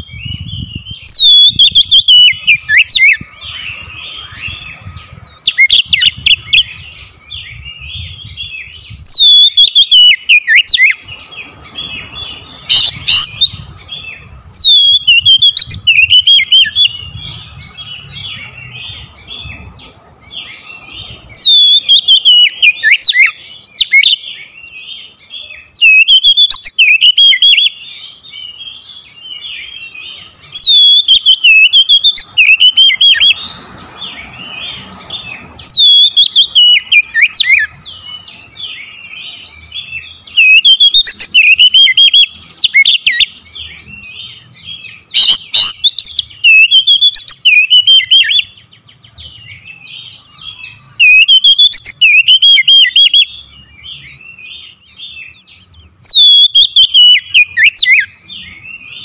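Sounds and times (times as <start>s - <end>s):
bird singing whistles and chatter: 0.0s - 59.0s.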